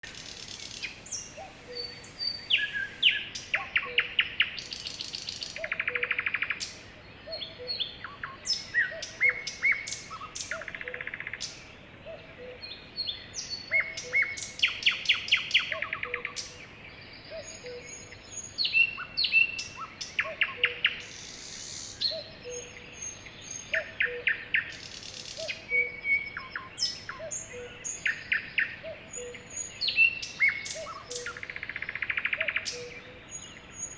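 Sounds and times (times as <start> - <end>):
birds chirping and singing: 0.1 - 4.0, 5.6 - 33.9.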